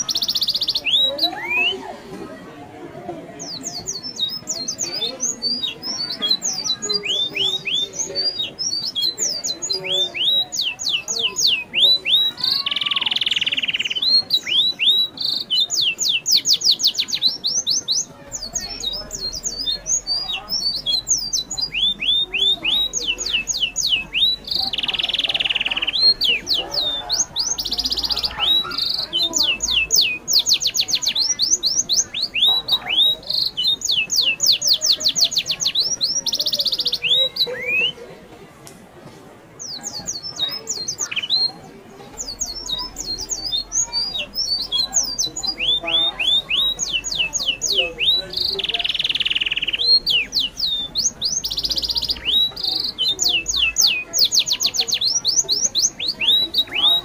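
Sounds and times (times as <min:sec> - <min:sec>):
animal chirps and squeaks: 0:03.5 - 0:38.0, 0:42.2 - 0:57.0.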